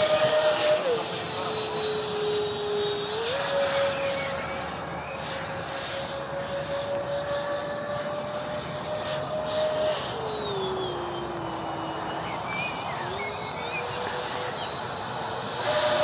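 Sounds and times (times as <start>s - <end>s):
electric jet fans whining: 0.0s - 16.0s.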